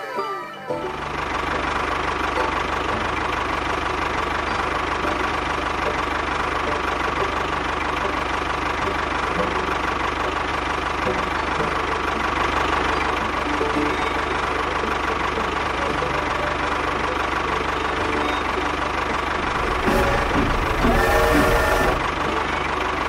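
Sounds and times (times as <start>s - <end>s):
tractor engine chugging: 0.1s - 23.0s.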